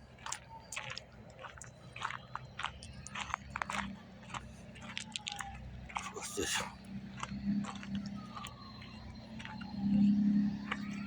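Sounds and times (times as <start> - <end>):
footsteps crunching: 0.2 - 11.0.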